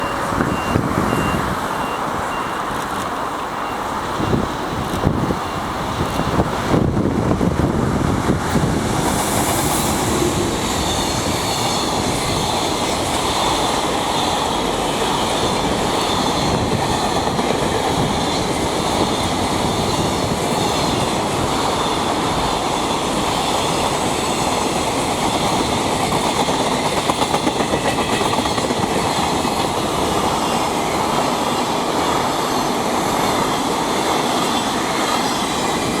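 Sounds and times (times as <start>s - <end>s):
clickety-clack over rail joints: 0.0s - 36.0s
train wheels rumbling on rails: 0.0s - 36.0s.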